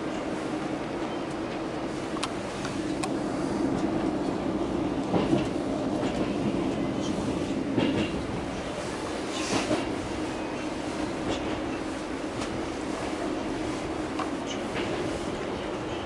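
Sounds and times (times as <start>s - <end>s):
train interior rumbling hum: 0.0s - 16.0s.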